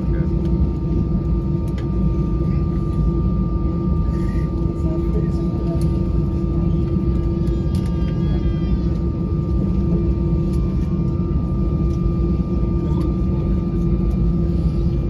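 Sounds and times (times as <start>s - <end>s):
aircraft cabin drone: 0.0s - 15.0s
jet engine high whine: 0.0s - 15.0s.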